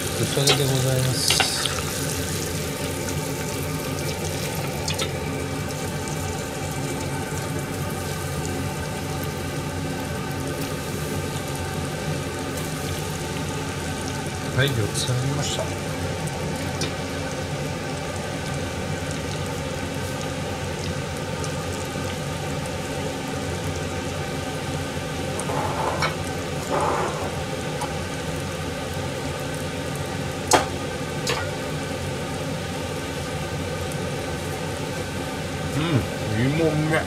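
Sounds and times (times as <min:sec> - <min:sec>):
oil sizzling while deep-frying: 0:00.0 - 0:37.0.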